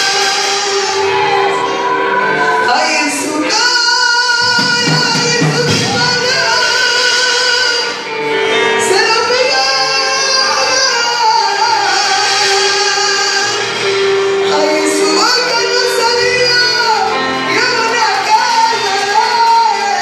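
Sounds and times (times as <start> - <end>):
musical accompaniment: 0.0 - 20.0
person singing over loudspeaker: 0.0 - 20.0.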